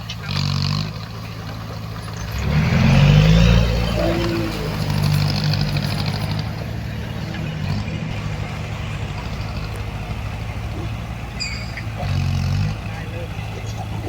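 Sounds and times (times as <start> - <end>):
heavy diesel engine working: 0.0 - 14.0.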